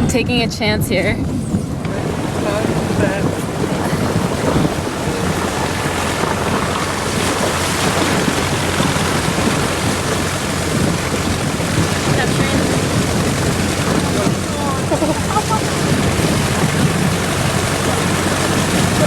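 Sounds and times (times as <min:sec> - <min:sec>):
low engine hum: 0:00.0 - 0:19.0
water rushing and splashing: 0:01.0 - 0:19.0.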